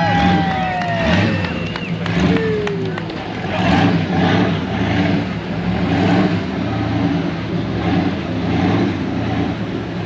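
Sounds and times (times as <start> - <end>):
truck engine revving hard: 0.0 - 10.0.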